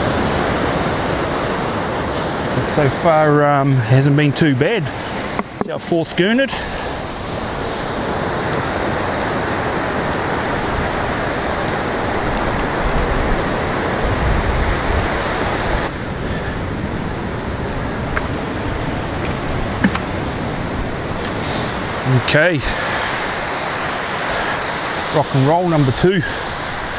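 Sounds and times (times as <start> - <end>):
surf breaking on beach: 0.0 - 26.9.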